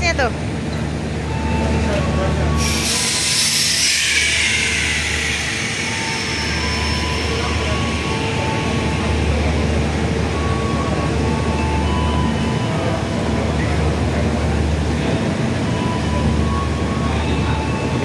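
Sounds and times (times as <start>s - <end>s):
locomotive engine rumbling: 0.0s - 18.0s.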